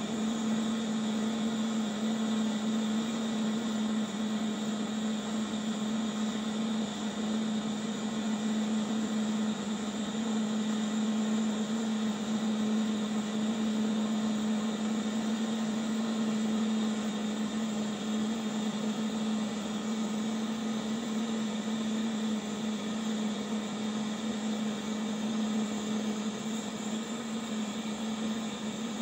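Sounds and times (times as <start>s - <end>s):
blowtorch flame burning: 0.0s - 29.0s.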